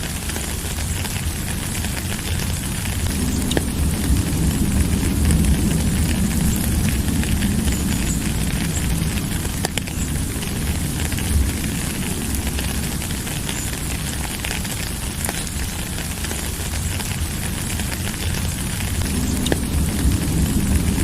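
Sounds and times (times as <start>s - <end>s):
low rumble: 0.0s - 21.0s
steady rain falling: 0.0s - 21.0s.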